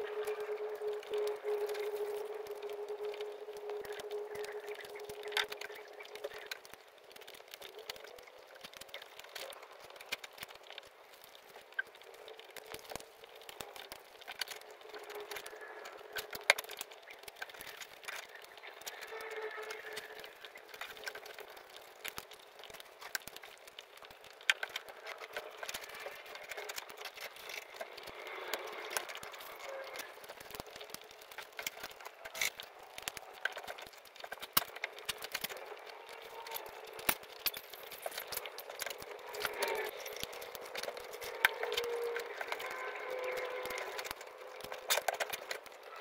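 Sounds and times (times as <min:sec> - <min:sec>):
small sticky clicks: 0:00.0 - 0:46.0.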